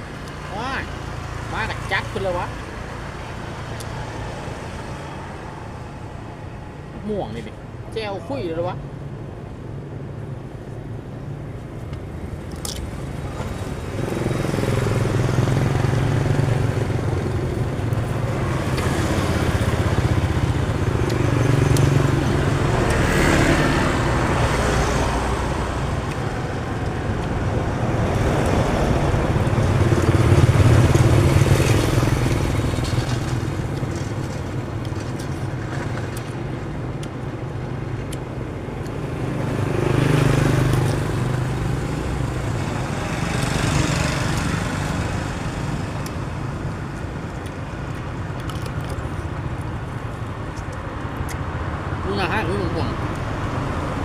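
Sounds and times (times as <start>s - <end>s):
vehicles passing: 0.0s - 54.0s.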